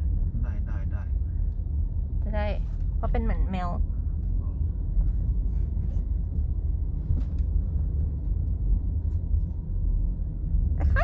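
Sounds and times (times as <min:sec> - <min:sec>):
vehicle ride rumble: 0:00.0 - 0:11.0.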